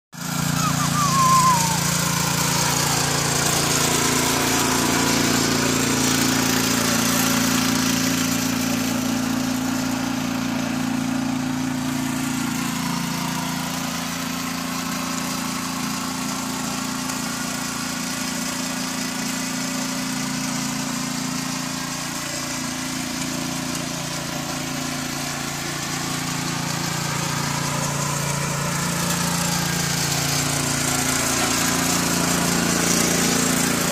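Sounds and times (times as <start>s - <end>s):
rotary tines tilling soil: 0.2s - 33.9s
small petrol engine running: 0.2s - 33.9s.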